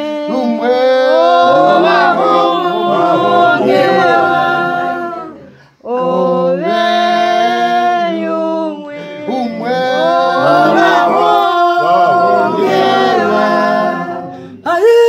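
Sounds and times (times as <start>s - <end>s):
choir singing a cappella: 0.0s - 14.7s.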